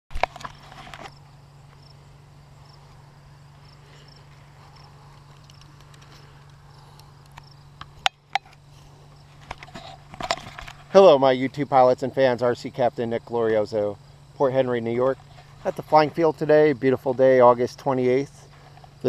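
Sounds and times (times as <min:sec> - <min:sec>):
steady low hum: 0:00.1 - 0:19.0
cricket chirps: 0:00.2 - 0:19.0.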